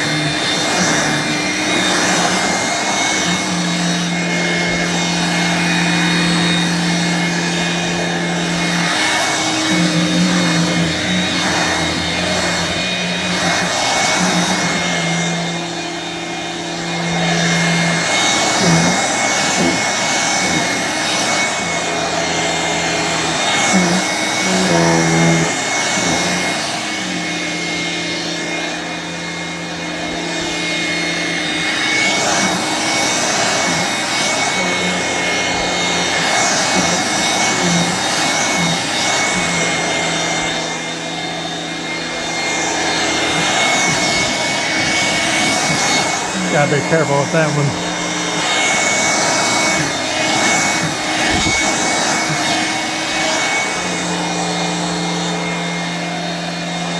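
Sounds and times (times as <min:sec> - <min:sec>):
hand vacuum running: 0:00.0 - 0:56.9.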